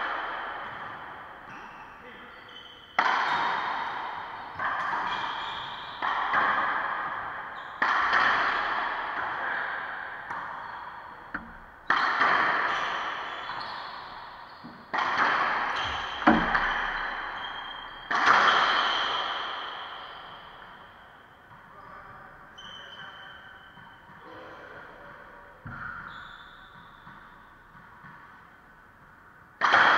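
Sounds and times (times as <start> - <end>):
racquetball hits echoing in court: 0.0 - 29.9.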